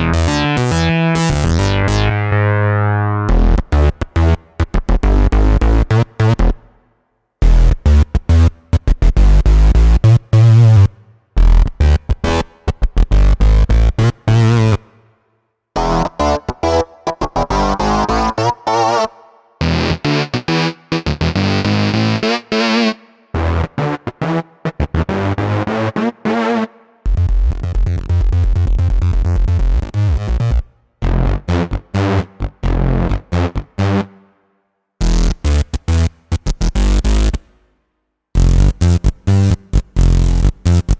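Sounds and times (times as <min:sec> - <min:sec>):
synth bass riff: 0:00.0 - 0:06.6, 0:07.4 - 0:14.8, 0:15.8 - 0:26.5, 0:27.1 - 0:34.1, 0:35.0 - 0:37.4, 0:38.4 - 0:40.9.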